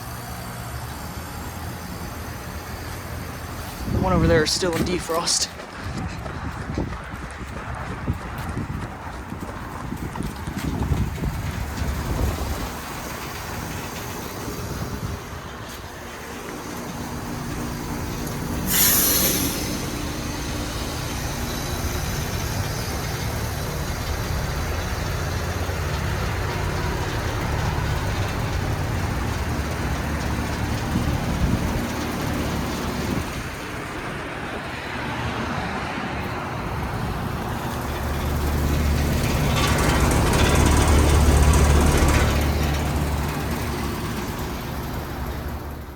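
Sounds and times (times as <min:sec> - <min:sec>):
heat pump humming: 0:00.0 - 0:06.0, 0:10.6 - 0:34.7, 0:36.2 - 0:45.9.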